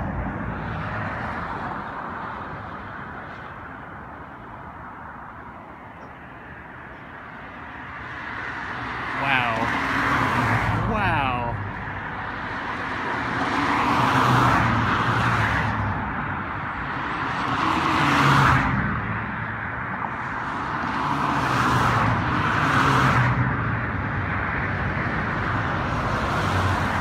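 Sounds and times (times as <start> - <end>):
cars passing close by: 0.0 - 27.0.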